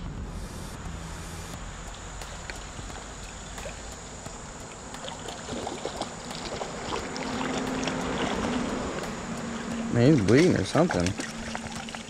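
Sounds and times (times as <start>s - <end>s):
wind: 0.0s - 12.0s
water splashing and swirling: 1.8s - 12.0s
running water: 1.9s - 12.0s.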